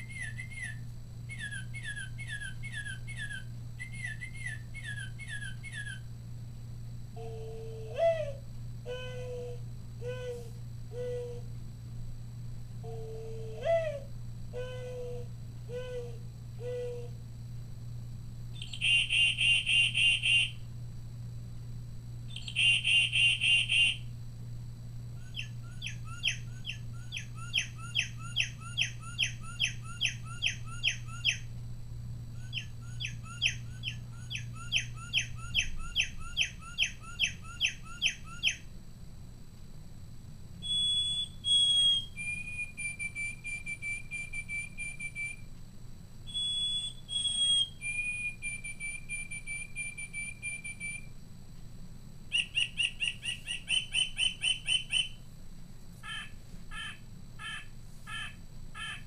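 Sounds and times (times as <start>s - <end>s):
recorded birdsong from small speaker: 0.0s - 6.5s, 7.1s - 11.6s, 12.8s - 17.2s, 18.4s - 20.7s, 22.0s - 24.2s, 25.1s - 38.8s, 40.5s - 45.5s, 46.2s - 51.1s, 52.2s - 55.3s, 56.0s - 59.0s.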